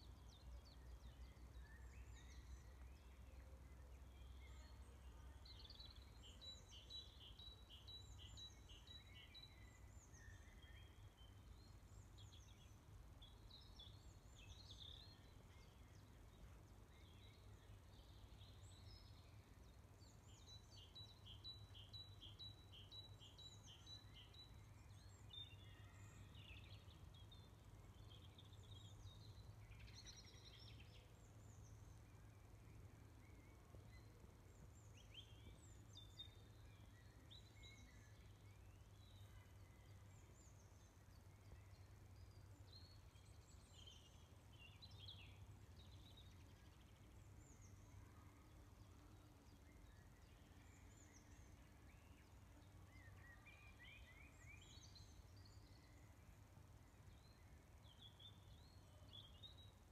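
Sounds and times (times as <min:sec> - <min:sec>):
songbird singing repeated notes: 0:00.0 - 0:59.9.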